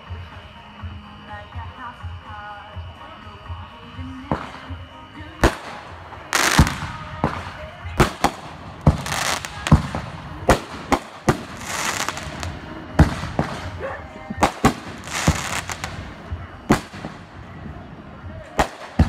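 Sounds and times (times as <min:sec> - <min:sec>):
fireworks bangs: 0:00.0 - 0:19.0
fireworks hissing crackle: 0:00.0 - 0:19.0.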